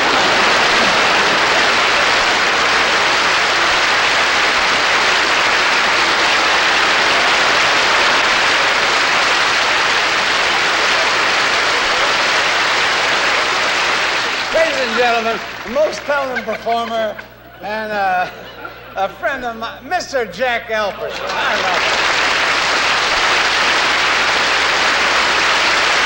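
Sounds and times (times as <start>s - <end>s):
audience applauding: 0.0s - 17.2s, 21.1s - 26.0s.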